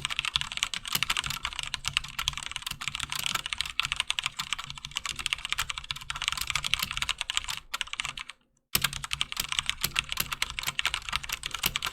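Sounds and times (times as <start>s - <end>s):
fast mechanical keyboard typing: 0.0s - 11.9s.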